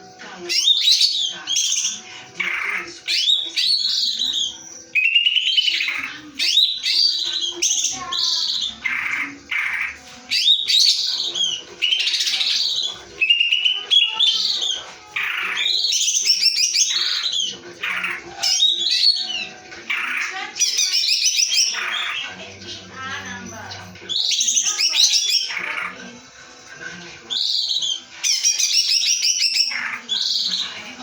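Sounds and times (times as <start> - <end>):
bird singing whistles and trills: 0.5 - 22.2, 27.3 - 30.7.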